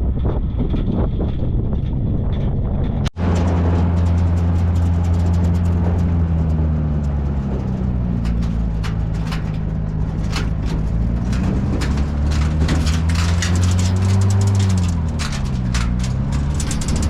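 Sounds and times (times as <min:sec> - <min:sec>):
engine running: 0:00.0 - 0:17.0
short rattles and knocks: 0:00.6 - 0:17.0.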